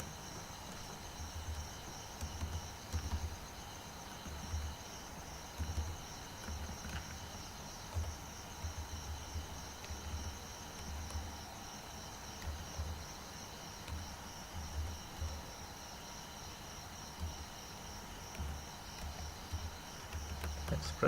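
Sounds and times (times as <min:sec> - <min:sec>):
faint high-pitched whine: 0:00.0 - 0:21.0.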